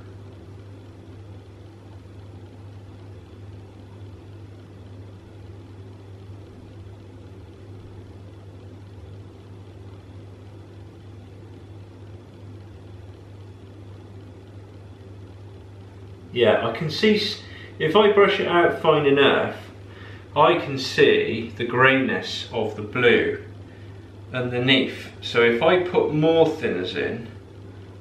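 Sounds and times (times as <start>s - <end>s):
low machine hum with hiss: 0.0s - 28.0s.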